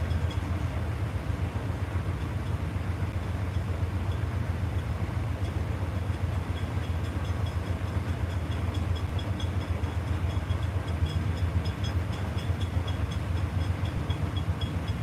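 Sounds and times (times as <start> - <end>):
train engine low rumble: 0.0 - 15.0.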